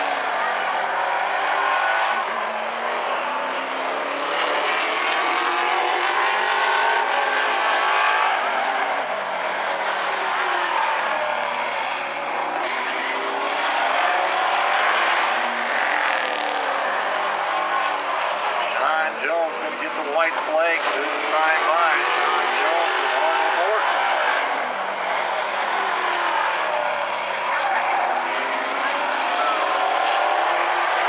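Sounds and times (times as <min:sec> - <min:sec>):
race car engines: 0:00.0 - 0:31.0.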